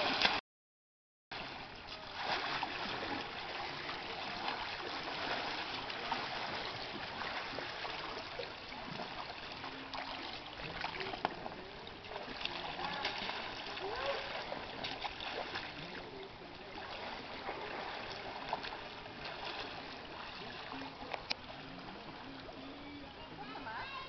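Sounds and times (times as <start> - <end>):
light water splashes: 0.0 - 0.4, 1.3 - 24.0
pool water lapping and trickling: 0.0 - 0.4, 1.3 - 24.0.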